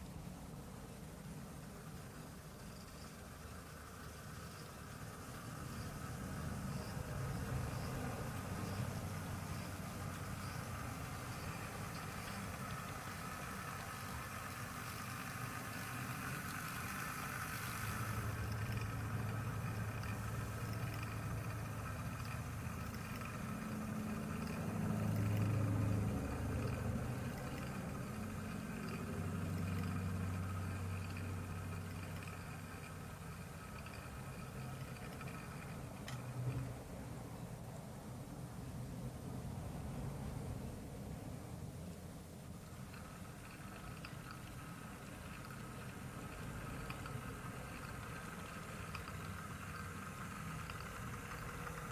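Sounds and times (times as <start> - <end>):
model train humming: 0.0 - 37.4, 42.2 - 51.9.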